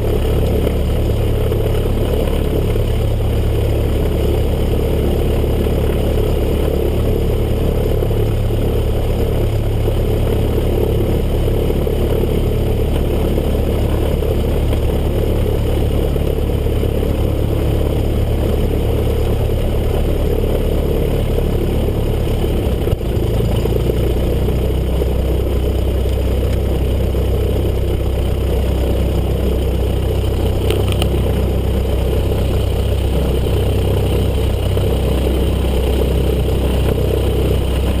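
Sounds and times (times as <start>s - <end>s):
propeller plane engine running: 0.0s - 38.0s.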